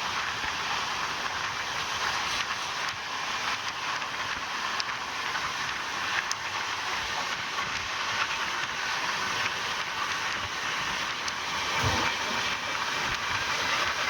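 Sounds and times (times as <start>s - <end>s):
train wheels on rails rushing: 0.0s - 14.0s.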